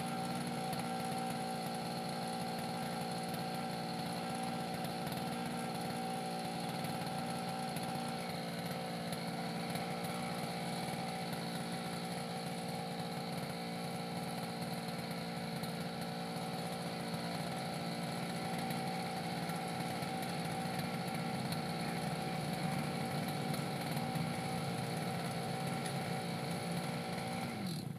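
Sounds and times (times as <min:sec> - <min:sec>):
brush cutter engine running: 0:00.0 - 0:27.9.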